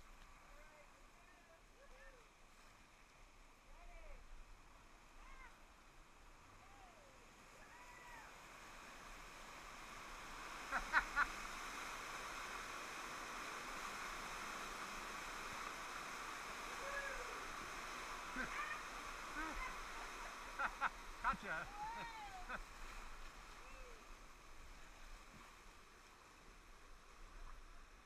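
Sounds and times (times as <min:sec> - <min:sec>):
rushing water of rapids: 0:00.0 - 0:28.0.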